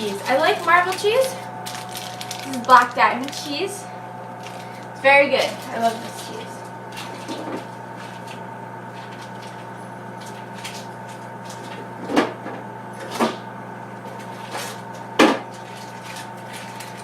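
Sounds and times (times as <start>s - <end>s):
refrigerator hum: 0.0s - 17.0s.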